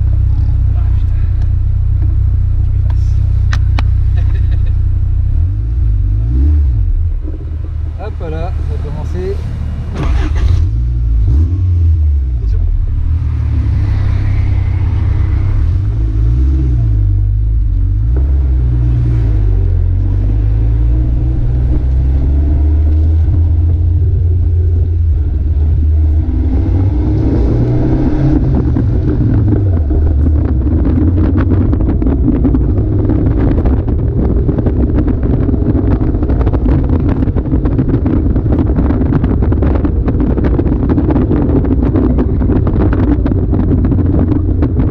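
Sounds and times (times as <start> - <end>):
wind and road noise: 0.0 - 44.9
car engine accelerating through gears: 5.2 - 44.9.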